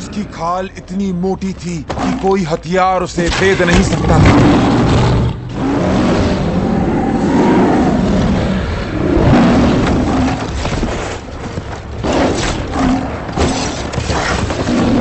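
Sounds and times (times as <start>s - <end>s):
deep rumble: 0.0s - 13.4s
giant lion roaring and growling: 1.9s - 2.4s, 3.4s - 15.0s.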